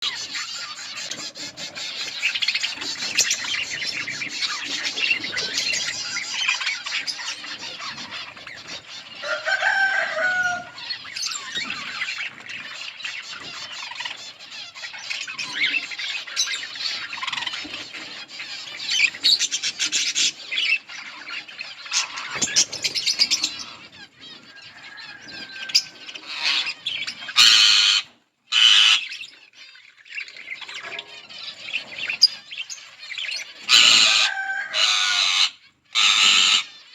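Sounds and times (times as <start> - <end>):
budgerigars chattering and chirping: 0.0 - 36.9.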